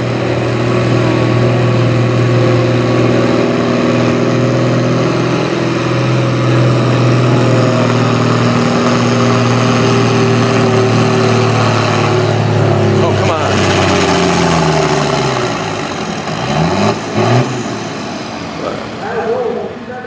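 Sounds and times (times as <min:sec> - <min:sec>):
tractor engine running loud: 0:00.0 - 0:20.0.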